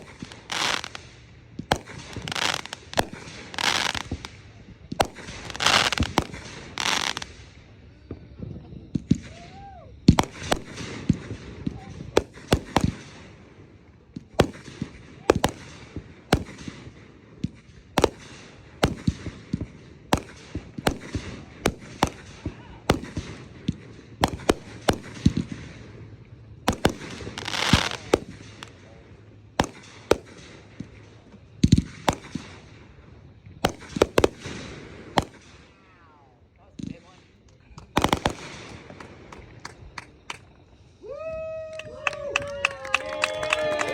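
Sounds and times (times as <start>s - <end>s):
fireworks banging: 0.0s - 35.9s, 36.7s - 40.9s
firework hissing crackle: 0.0s - 36.0s, 36.8s - 41.6s.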